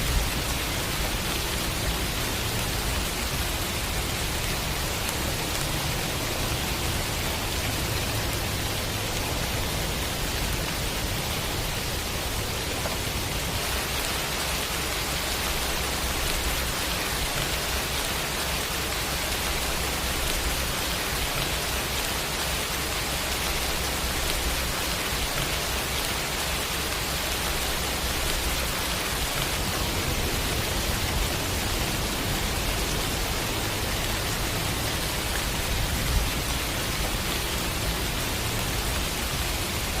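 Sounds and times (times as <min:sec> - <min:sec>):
noise hiss: 0:00.0 - 0:40.0
steady rain: 0:00.0 - 0:40.0.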